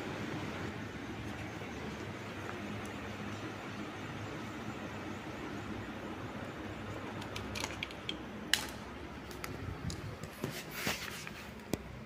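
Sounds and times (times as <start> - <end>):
ceiling fan whirring: 0.0 - 12.0.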